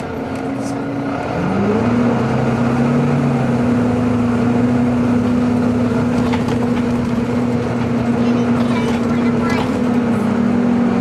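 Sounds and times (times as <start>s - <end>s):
bus engine whine: 0.0s - 11.0s
road rumble: 0.0s - 11.0s.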